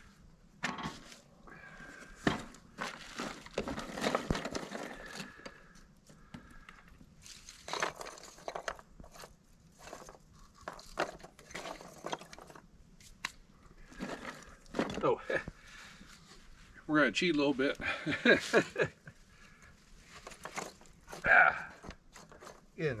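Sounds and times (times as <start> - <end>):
kindling rustling and cracking: 0.6 - 16.4, 17.2 - 23.0.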